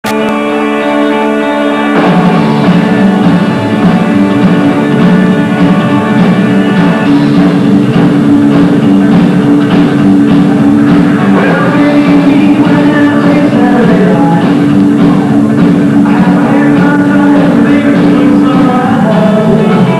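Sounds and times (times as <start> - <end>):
rockabilly band playing: 0.0 - 19.9
electric guitar chord: 0.1 - 19.9
driving drum beat: 1.6 - 19.9.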